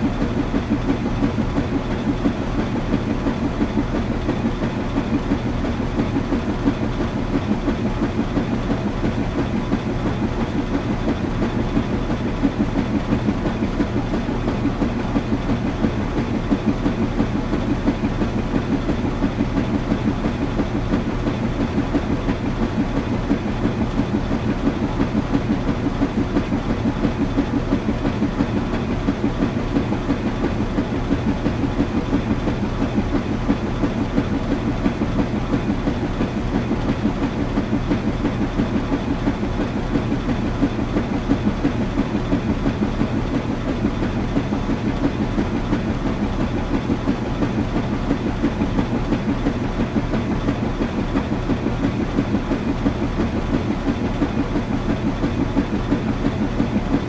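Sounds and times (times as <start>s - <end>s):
washing machine churning: 0.0s - 57.0s.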